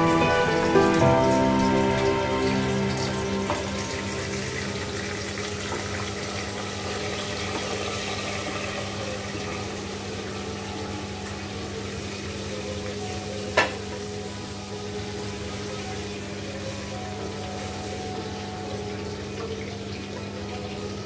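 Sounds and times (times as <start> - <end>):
sizzling hiss: 0.0 - 19.7.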